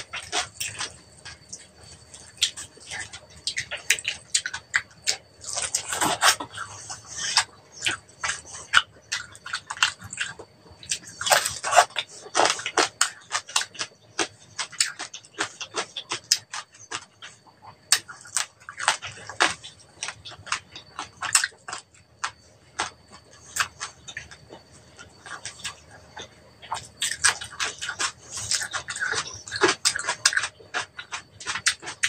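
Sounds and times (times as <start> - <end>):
crunchy chewing: 0.0 - 32.0.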